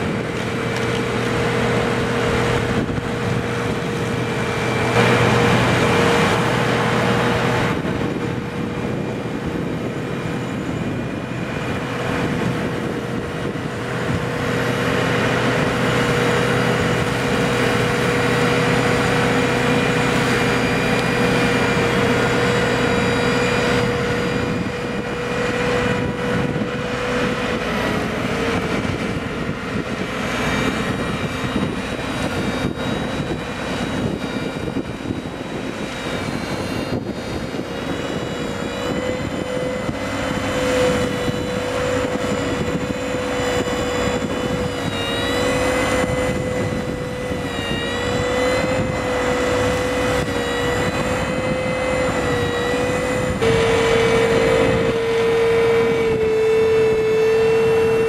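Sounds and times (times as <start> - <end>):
flail mower cutting grass: 0.0 - 58.0
tractor running: 0.0 - 58.0.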